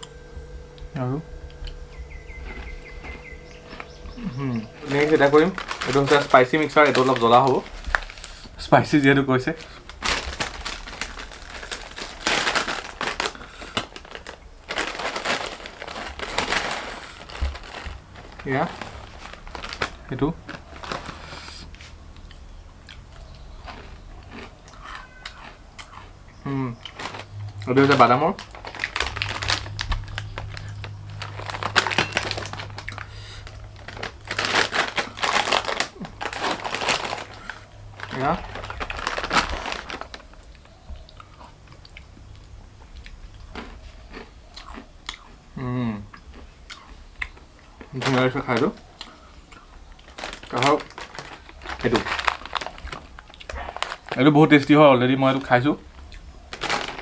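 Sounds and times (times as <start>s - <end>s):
plastic snack packet crinkling: 1.6s - 22.0s, 23.0s - 45.4s, 47.2s - 57.0s.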